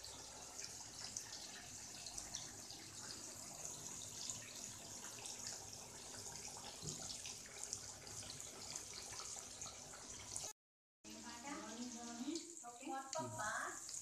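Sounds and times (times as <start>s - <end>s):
fish deep-frying in hot oil: 0.0s - 10.5s, 11.1s - 14.0s.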